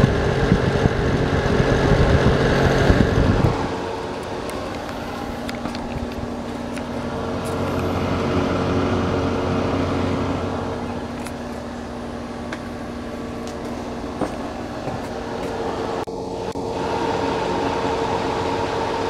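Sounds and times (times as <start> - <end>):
space heater fan humming: 0.0 - 19.0.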